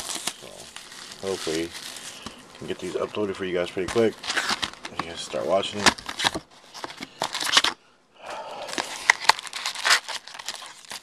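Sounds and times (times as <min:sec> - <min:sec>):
cardboard and paper rustling: 0:00.0 - 0:07.8, 0:08.7 - 0:11.0.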